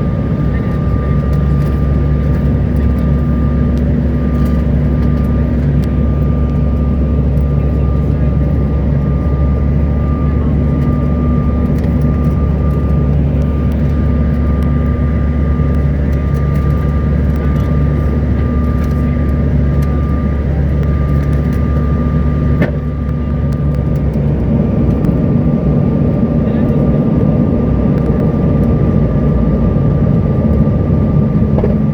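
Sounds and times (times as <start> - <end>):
jet airliner cabin rumble: 0.0 - 31.9
steady high whine: 0.0 - 31.9.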